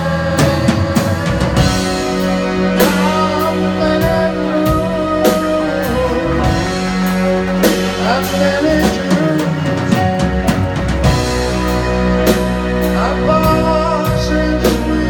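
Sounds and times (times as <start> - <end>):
bass guitar: 0.0 - 15.0
drum kit and cymbal hits: 0.0 - 15.0
electric guitar: 0.0 - 15.0
keyboard: 0.0 - 15.0.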